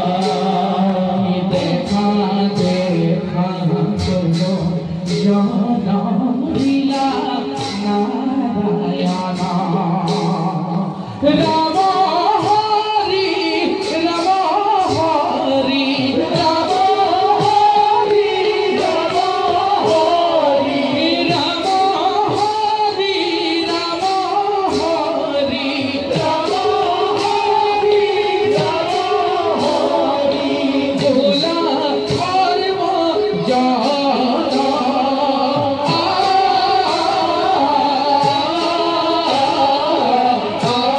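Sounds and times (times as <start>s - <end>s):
percussion strikes: 0.0s - 40.9s
person singing ornamented melody: 0.0s - 40.9s.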